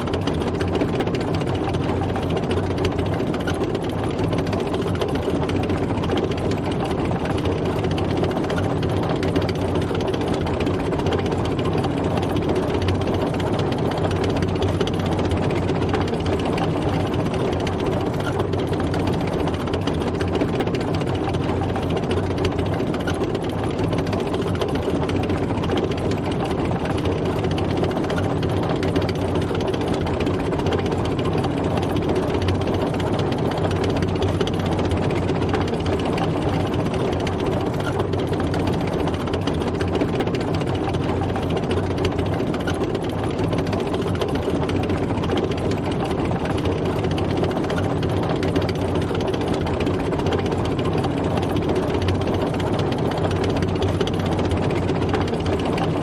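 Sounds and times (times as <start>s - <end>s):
dense mechanical clatter: 0.0s - 56.0s
tank engine running: 0.0s - 56.0s.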